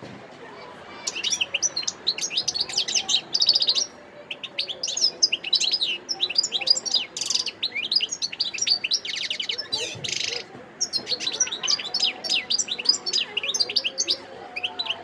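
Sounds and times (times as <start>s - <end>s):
finch twittering song: 1.0s - 15.0s.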